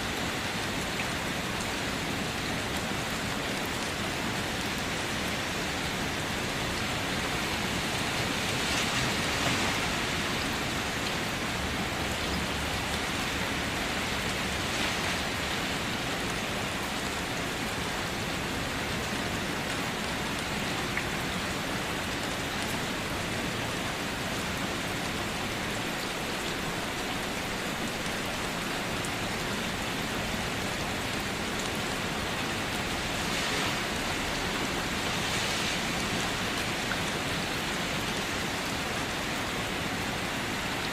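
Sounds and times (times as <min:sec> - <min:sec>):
rain falling on a car: 0:00.0 - 0:40.9.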